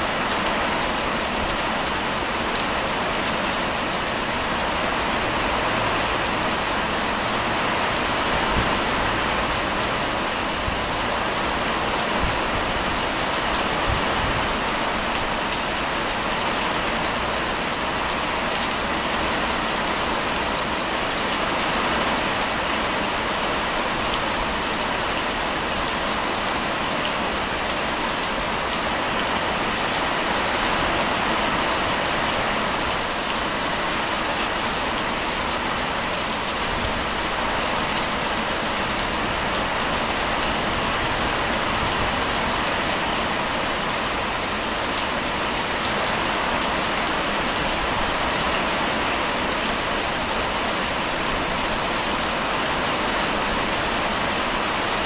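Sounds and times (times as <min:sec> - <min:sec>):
heavy rain on foliage and gravel: 0:00.0 - 0:55.0.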